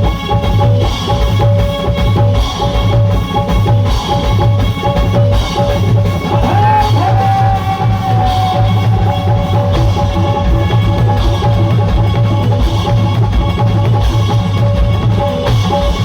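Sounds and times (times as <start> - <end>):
fast drum beat: 0.0 - 16.0
live band music: 0.0 - 16.0.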